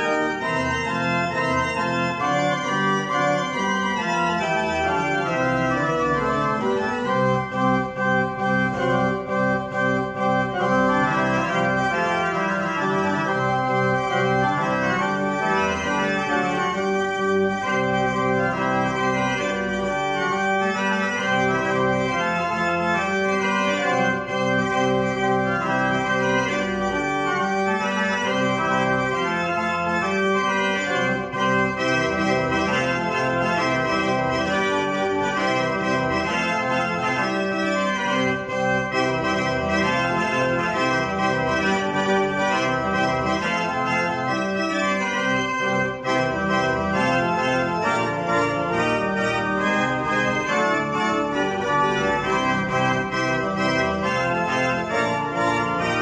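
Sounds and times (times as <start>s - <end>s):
pipe organ playing: 0.0s - 56.0s.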